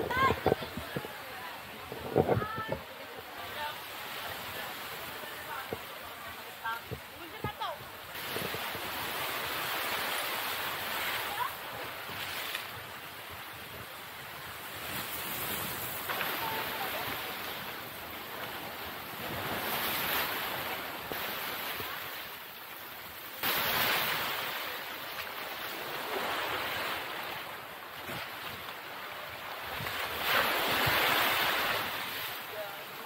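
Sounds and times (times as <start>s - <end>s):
surf on rocky shore: 0.0s - 33.0s.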